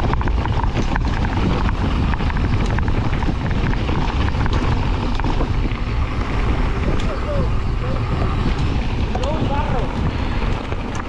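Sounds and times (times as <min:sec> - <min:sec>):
bike clicks and rattles: 0:00.0 - 0:11.0
wind rumbling on microphone: 0:00.0 - 0:11.0.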